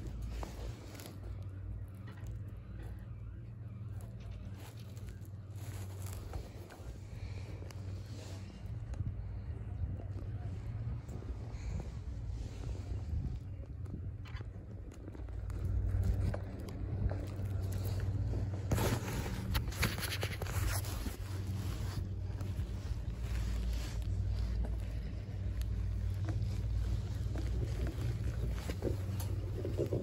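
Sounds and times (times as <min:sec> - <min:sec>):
chairlift rumble and hum: 0:00.0 - 0:30.0
crackling and light clicks: 0:00.0 - 0:30.0
wind on microphone: 0:05.5 - 0:30.0.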